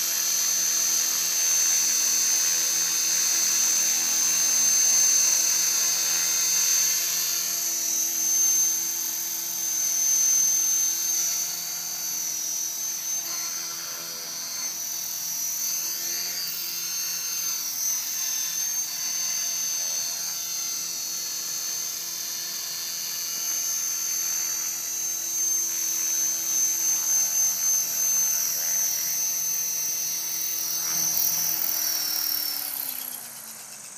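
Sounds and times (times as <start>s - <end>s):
rc helicopter motor whine: 0.0s - 33.9s
spinning rotors buzzing: 0.0s - 33.9s.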